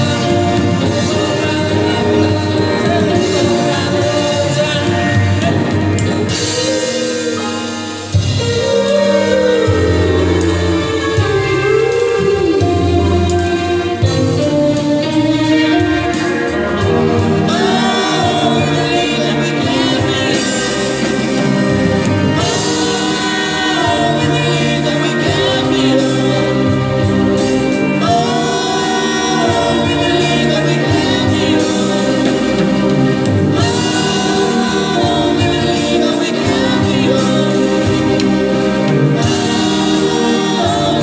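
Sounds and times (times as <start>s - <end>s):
live band playing: 0.0s - 41.0s
voices singing: 0.0s - 41.0s.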